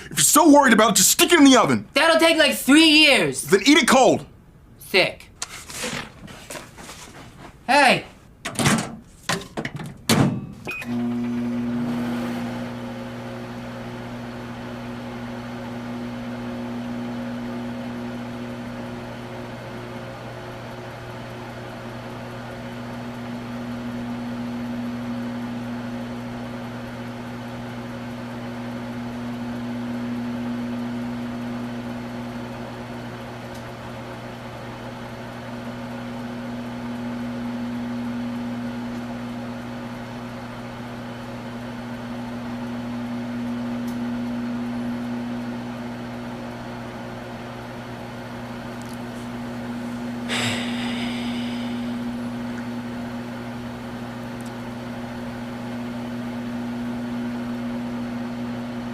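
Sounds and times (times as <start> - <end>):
microwave oven humming: 0.0 - 6.6, 7.7 - 58.9.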